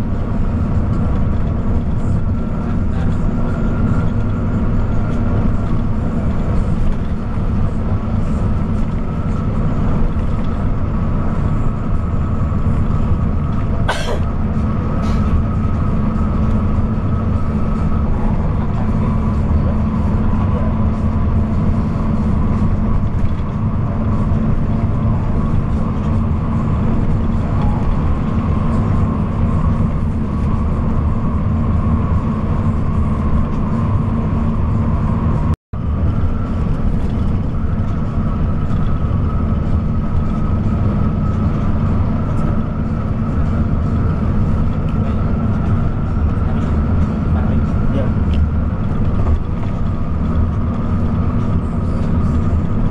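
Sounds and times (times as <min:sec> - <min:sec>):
bus engine drone: 0:00.0 - 0:52.9
road noise: 0:00.0 - 0:52.9.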